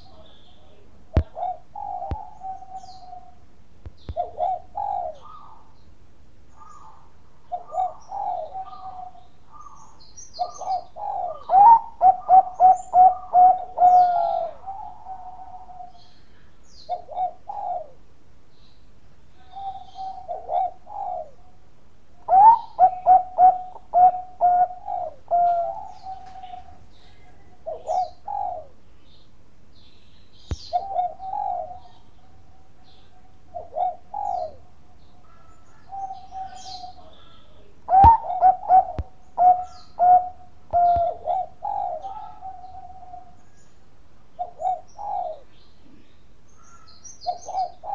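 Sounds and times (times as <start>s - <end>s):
dove cooing: 0.0s - 5.8s, 6.5s - 18.1s, 19.3s - 28.9s, 30.5s - 47.9s.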